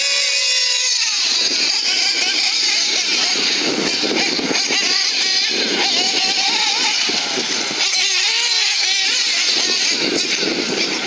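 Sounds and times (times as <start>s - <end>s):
rc car engines revving: 0.0s - 11.0s.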